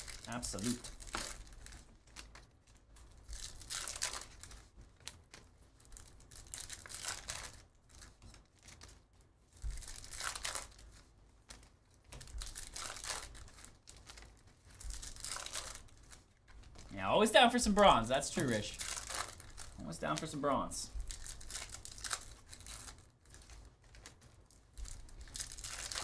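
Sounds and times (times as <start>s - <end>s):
foil wrappers tearing and crinkling: 0.0s - 2.4s, 3.2s - 9.0s, 9.6s - 11.1s, 12.1s - 26.0s.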